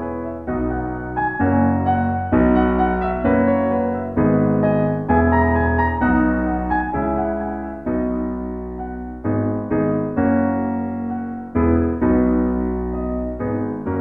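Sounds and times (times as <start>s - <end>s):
piano playing sustained chords: 0.0s - 14.0s.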